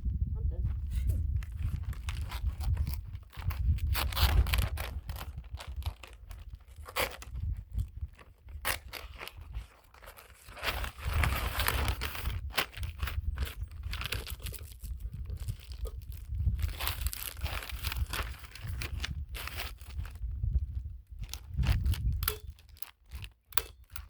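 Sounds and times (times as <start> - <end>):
plastic sheet crinkling: 1.4 - 24.0.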